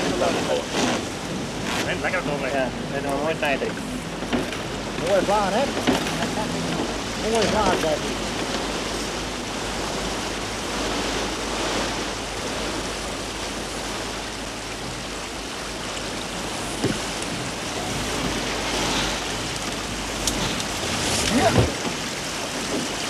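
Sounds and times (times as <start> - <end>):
water rushing along hull: 0.0 - 23.0
wind: 0.0 - 23.0.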